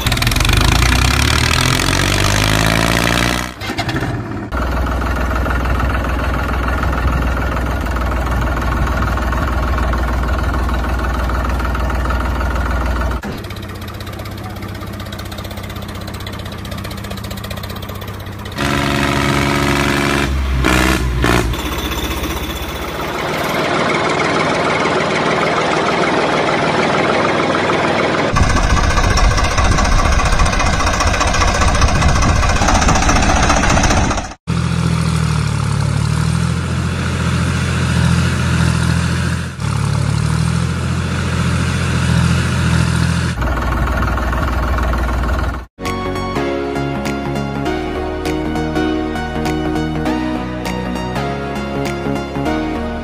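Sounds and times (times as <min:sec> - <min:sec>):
tractor engine running and revving: 0:00.0 - 0:45.7.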